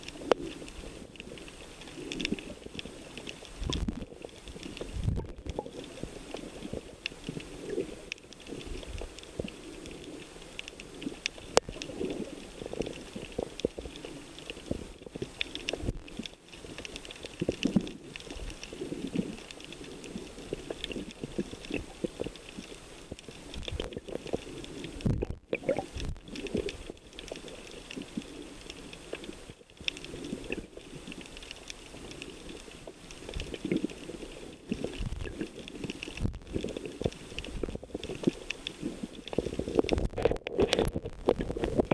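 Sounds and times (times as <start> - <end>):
crackling: 0.0 - 41.9
underwater gurgling: 0.0 - 41.9.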